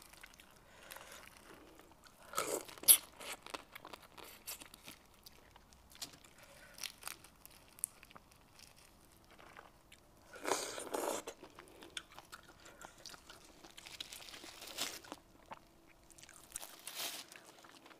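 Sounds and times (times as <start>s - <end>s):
chewing: 0.0s - 17.9s.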